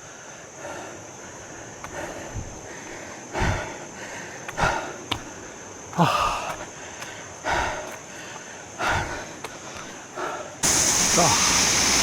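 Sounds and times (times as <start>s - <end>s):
man breathing hard: 0.0s - 11.6s.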